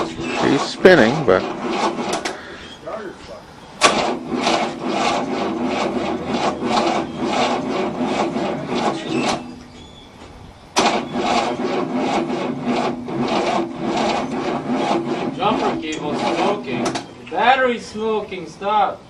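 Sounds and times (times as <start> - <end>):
engine cranking on starter: 0.0 - 18.1.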